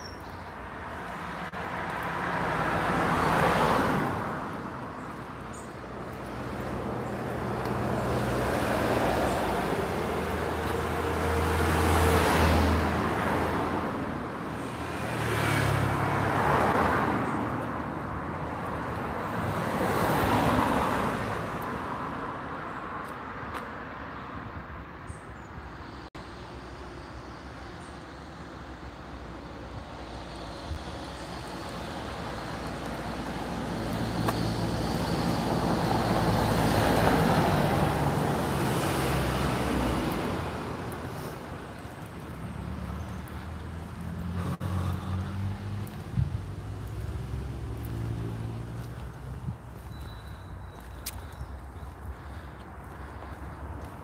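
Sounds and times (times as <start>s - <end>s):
cars passing close by: 0.0s - 54.0s.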